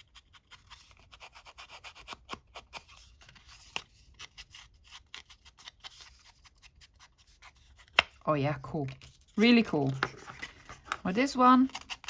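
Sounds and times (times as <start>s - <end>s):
tool scraping paper: 0.0s - 8.0s, 9.0s - 12.0s.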